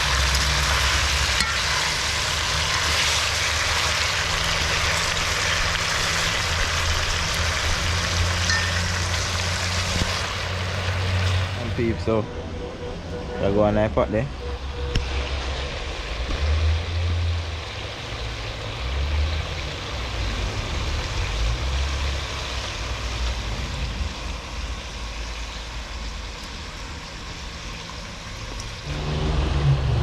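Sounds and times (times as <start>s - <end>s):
food frying in oil: 0.0s - 11.6s, 14.9s - 29.8s.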